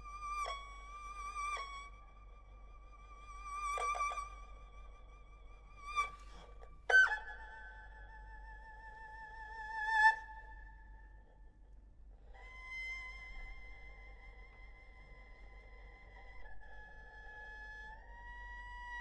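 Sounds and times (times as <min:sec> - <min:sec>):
erhu holding long notes with vibrato: 0:00.0 - 0:11.4, 0:12.2 - 0:19.0.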